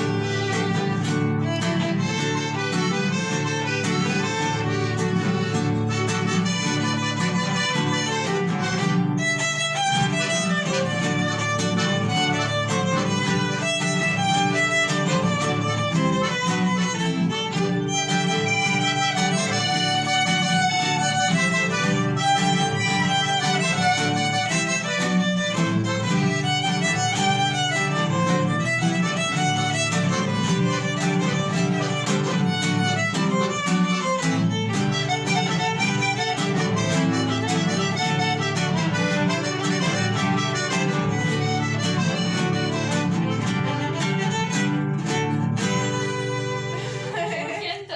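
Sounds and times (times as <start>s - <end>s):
violin melody: 0.0s - 47.4s
guitar accompaniment: 0.0s - 47.9s.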